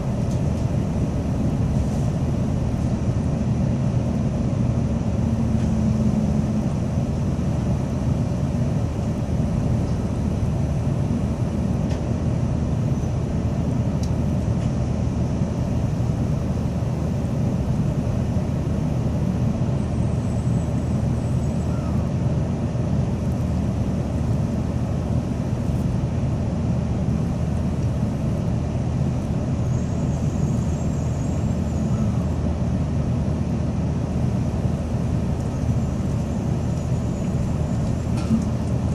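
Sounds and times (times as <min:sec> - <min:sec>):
train cabin rumble: 0:00.0 - 0:38.9.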